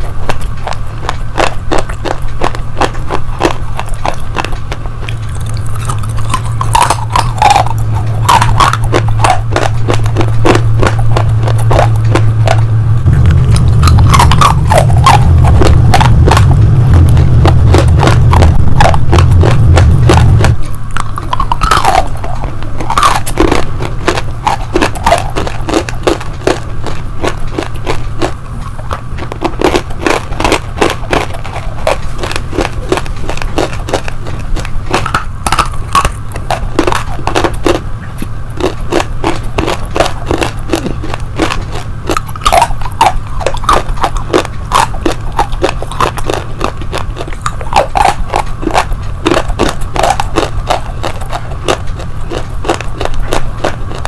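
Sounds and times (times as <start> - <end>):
crunching and chewing hard pieces: 0.0 - 54.0
steady low hum: 0.0 - 54.0.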